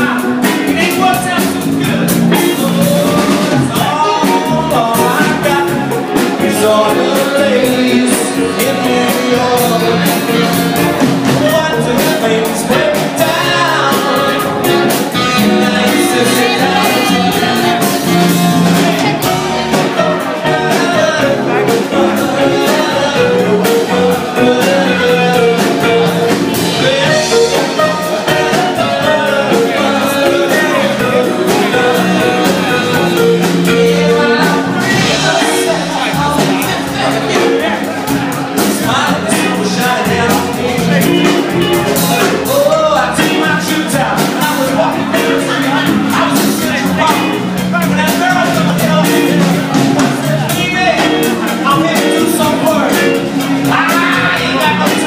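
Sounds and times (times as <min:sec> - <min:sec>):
lead vocal singing: 0:00.0 - 0:55.0
live soul band playing: 0:00.0 - 0:55.0
steady drum beat: 0:00.0 - 0:55.0.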